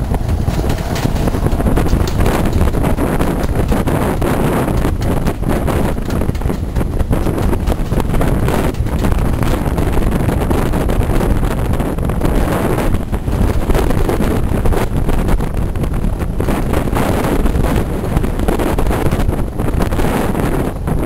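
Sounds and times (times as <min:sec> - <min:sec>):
low rumble of train running: 0:00.0 - 0:21.0
wind buffeting microphone: 0:00.0 - 0:21.0.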